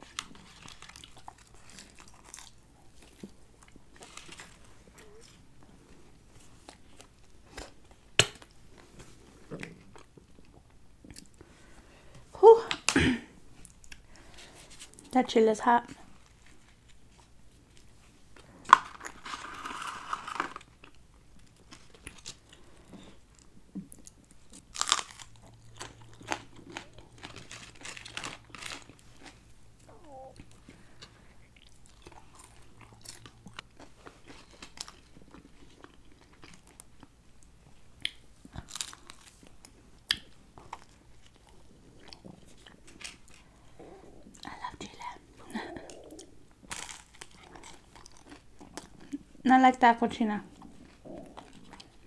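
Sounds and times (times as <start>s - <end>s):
biting and chewing food: 0.0s - 11.4s, 16.0s - 49.4s, 50.4s - 52.0s.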